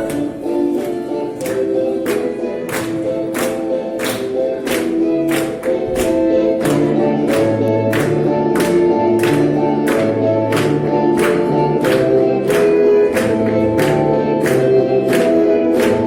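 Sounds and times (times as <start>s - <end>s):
steady percussive beat: 1.4s - 16.0s.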